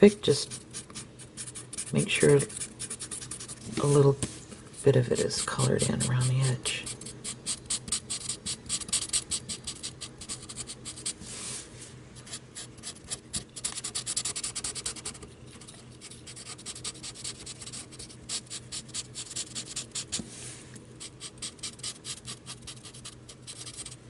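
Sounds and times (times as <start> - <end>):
marker scratching on cardboard: 0.5 - 3.9, 5.1 - 11.2, 12.2 - 20.3, 21.0 - 24.0.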